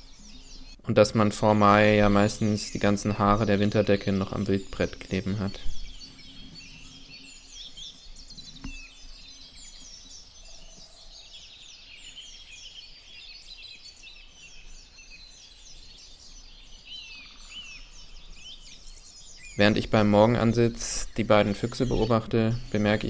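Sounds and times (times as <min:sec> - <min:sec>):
songbirds chirping and trilling: 0:00.0 - 0:23.0.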